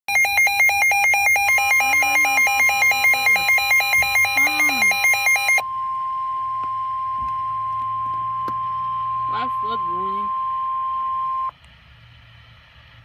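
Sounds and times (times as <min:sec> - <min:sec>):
steady alert tone: 0:00.1 - 0:10.5
rapid electronic beeping: 0:00.1 - 0:11.5.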